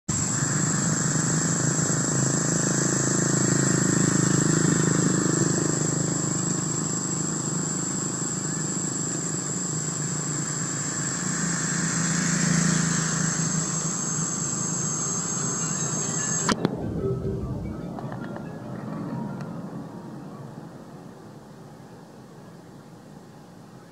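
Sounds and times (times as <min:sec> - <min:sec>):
passing road traffic: 0:00.1 - 0:22.2
steady high-pitched whine: 0:00.1 - 0:23.9.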